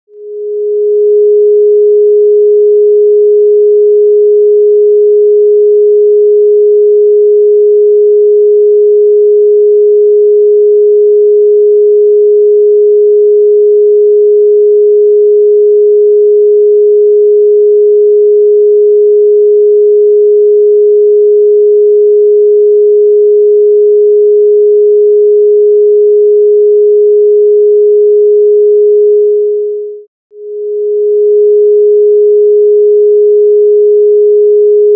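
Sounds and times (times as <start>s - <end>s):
steady electronic sine tone: 0.1s - 34.9s.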